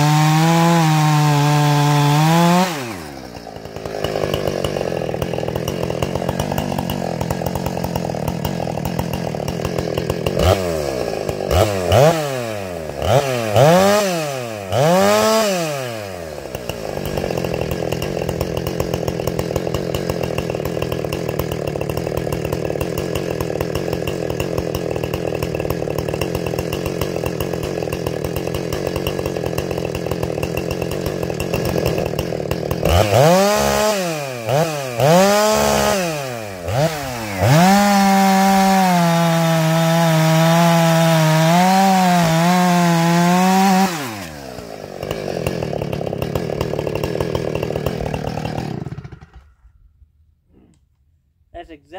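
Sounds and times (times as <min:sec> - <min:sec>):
chainsaw idling and revving: 0:00.0 - 0:50.9.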